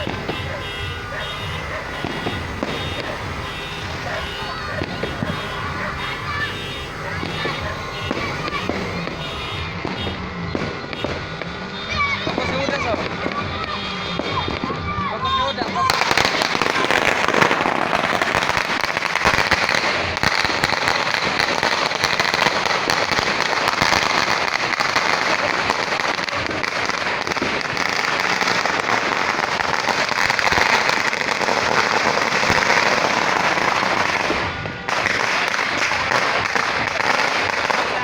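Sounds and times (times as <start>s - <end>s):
firecrackers crackling: 0.0s - 38.0s.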